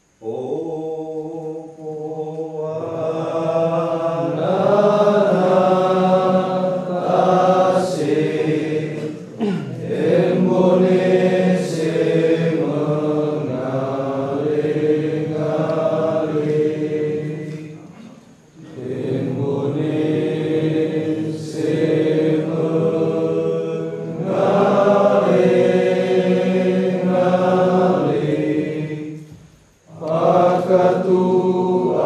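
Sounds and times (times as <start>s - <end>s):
men chanting in long notes: 0.0s - 32.0s.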